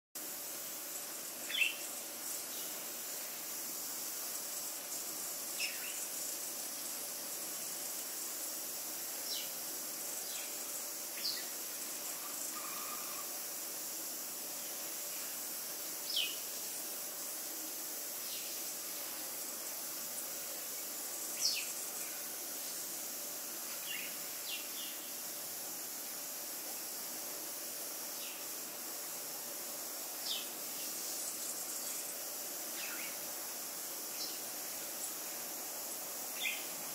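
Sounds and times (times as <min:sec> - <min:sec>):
high-pitched insect hiss: 0:00.2 - 0:36.9.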